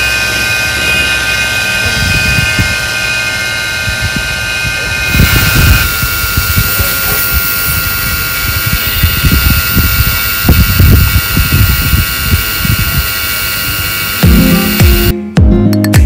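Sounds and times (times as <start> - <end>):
small fan motor whining: 0.0 - 15.2.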